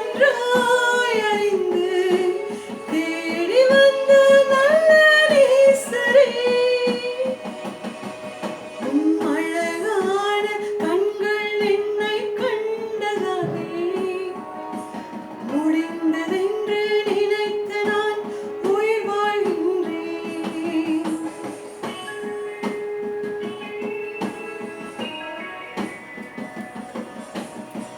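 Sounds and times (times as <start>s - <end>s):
person singing: 0.0s - 22.9s
guitar accompaniment: 0.0s - 27.9s.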